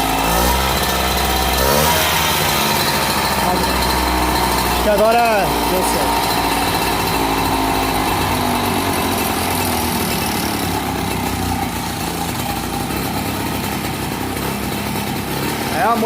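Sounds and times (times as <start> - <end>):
moped engine idling: 0.0 - 16.0.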